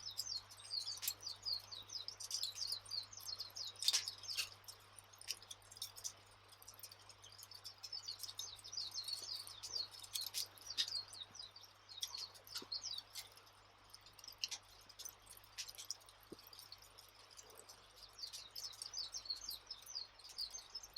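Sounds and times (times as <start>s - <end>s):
small birds chirping: 0.0s - 20.9s
campfire crackling and popping: 0.1s - 20.9s.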